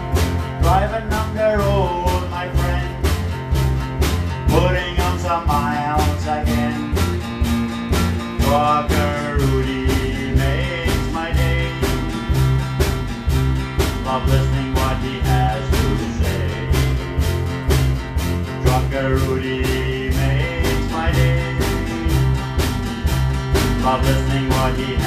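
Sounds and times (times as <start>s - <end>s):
drum kit beat: 0.0s - 25.0s
electric bass: 0.0s - 25.0s
electric guitar: 0.0s - 25.0s.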